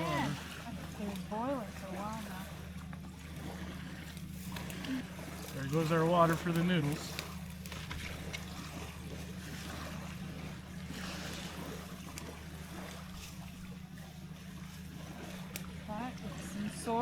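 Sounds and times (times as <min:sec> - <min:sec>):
outdoor wind: 0:00.0 - 0:17.0
water noise: 0:00.0 - 0:17.0.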